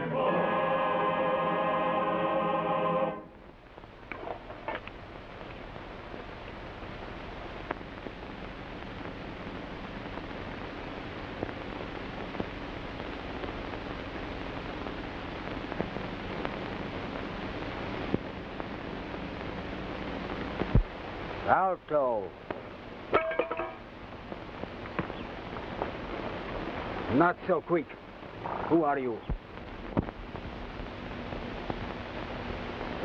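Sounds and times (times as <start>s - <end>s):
film soundtrack surface hiss: 0.0s - 33.0s
clicks and crackles: 3.4s - 21.4s, 22.4s - 27.1s, 27.9s - 33.0s.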